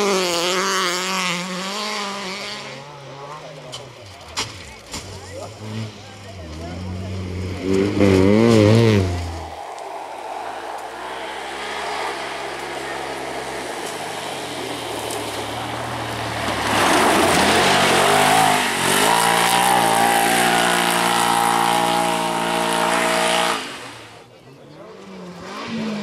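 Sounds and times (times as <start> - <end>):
buggy engine at high revs: 0.0 - 26.0.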